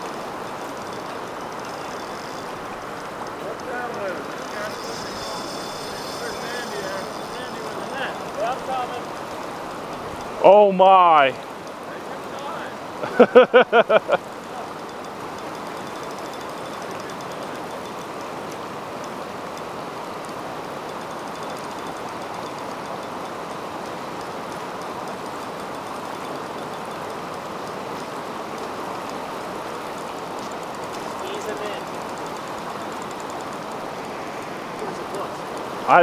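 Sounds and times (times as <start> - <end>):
creek rapids rushing over rocks: 0.0 - 36.0.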